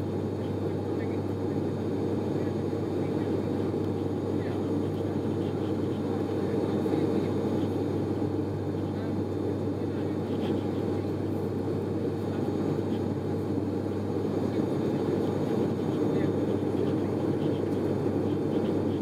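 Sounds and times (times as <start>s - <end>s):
turboprop cabin drone: 0.0s - 19.0s.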